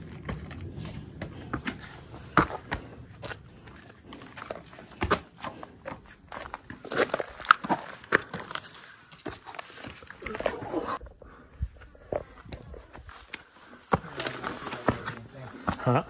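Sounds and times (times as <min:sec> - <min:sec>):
footsteps on rock and gravel: 0:00.0 - 0:10.7, 0:11.7 - 0:16.0.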